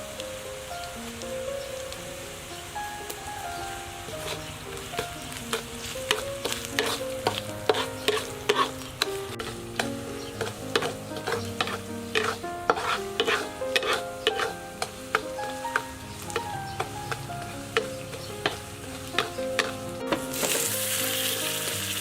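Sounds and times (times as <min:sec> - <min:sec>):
food sizzling in oil: 0:00.0 - 0:22.0
spatula scraping metal pan: 0:04.2 - 0:22.0.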